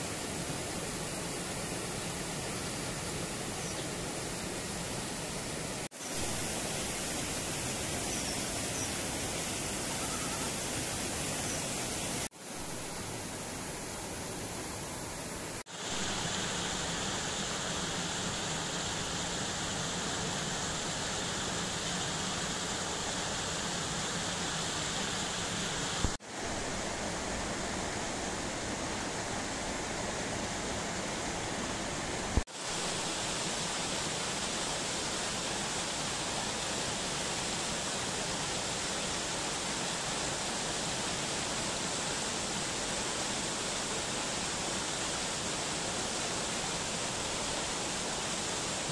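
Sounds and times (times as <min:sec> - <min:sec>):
stream cascading over rocks: 0:00.0 - 0:48.9.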